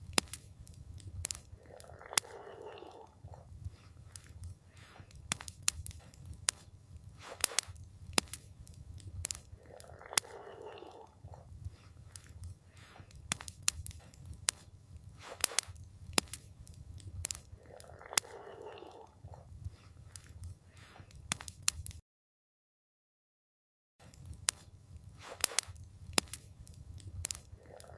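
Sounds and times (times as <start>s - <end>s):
campfire crackling and popping: 0.0s - 22.0s, 24.0s - 27.9s.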